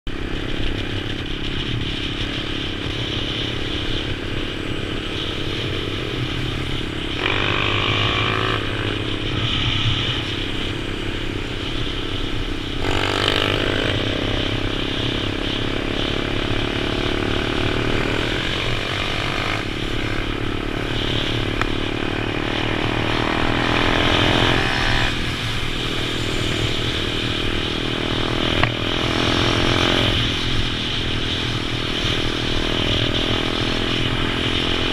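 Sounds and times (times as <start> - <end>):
pit bike engine accelerating: 0.1 - 34.9.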